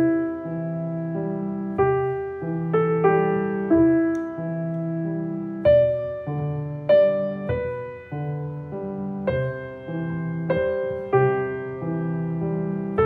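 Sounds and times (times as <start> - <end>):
piano playing held chords: 0.0 - 13.0.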